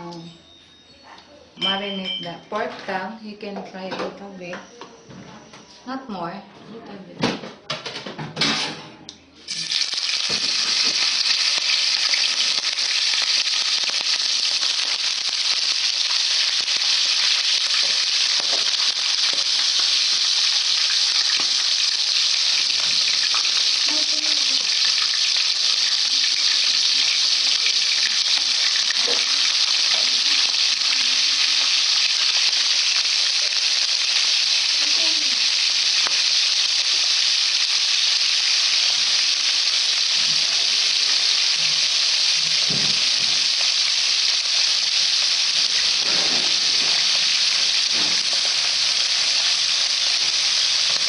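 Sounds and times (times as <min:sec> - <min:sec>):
meat sizzling in hot oil: 0:09.5 - 0:51.0.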